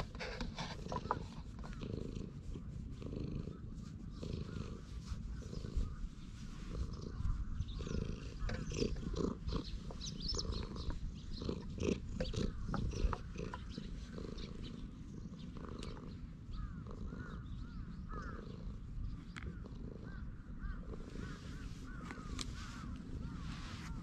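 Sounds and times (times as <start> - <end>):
hand rubbing fur: 0.0 - 16.8, 21.0 - 24.0
cat purring: 0.0 - 24.0.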